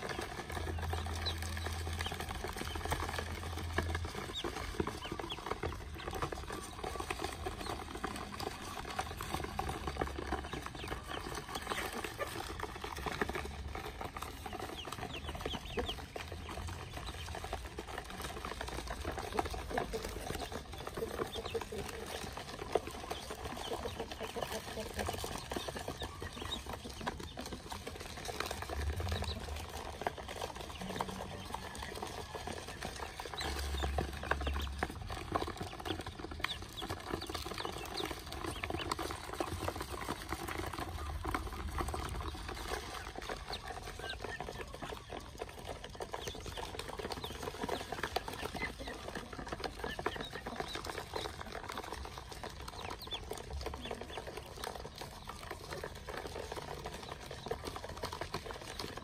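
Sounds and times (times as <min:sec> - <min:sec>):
ducklings peeping: 0:00.0 - 0:59.0.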